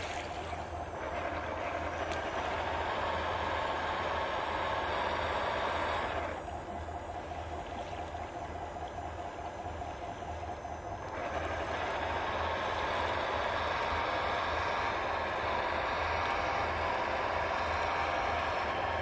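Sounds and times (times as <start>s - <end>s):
toy truck mechanical whir: 0.0s - 19.0s.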